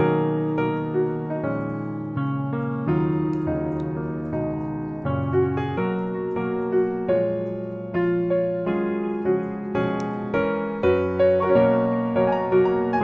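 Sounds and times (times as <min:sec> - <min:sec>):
instrumental keyboard music: 0:00.0 - 0:13.0.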